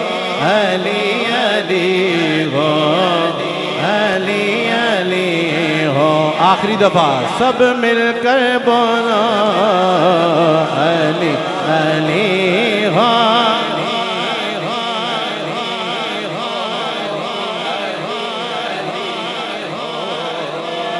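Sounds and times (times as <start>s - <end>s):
crowd of men chanting: 0.0s - 20.9s
man chanting into a microphone: 0.0s - 20.9s.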